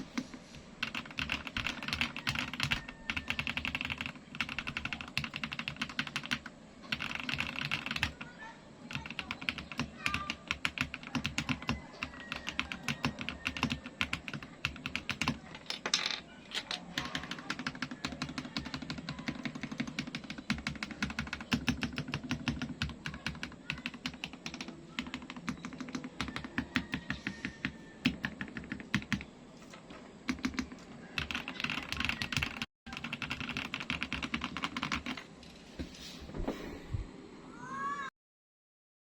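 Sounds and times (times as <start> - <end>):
mechanical keyboard typing: 0.0 - 8.3, 8.9 - 29.3, 30.3 - 35.2.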